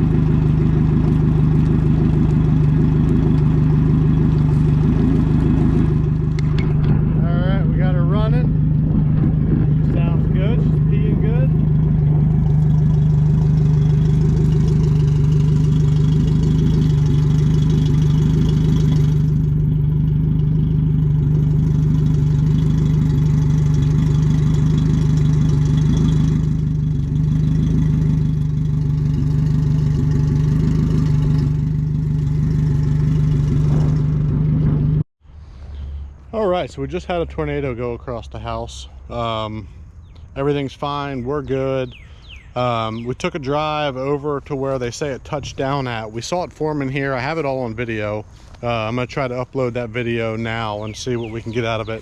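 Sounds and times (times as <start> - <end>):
outboard motor running: 0.0 - 35.1, 40.4 - 52.0.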